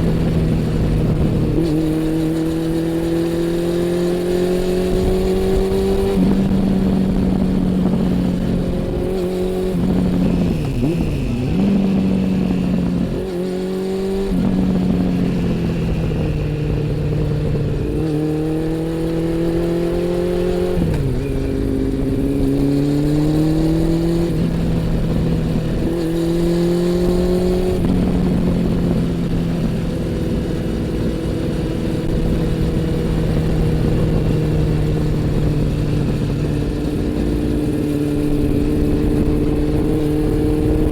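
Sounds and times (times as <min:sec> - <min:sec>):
motorcycle engine revving: 0:00.0 - 0:40.9
wind on microphone: 0:00.0 - 0:40.9.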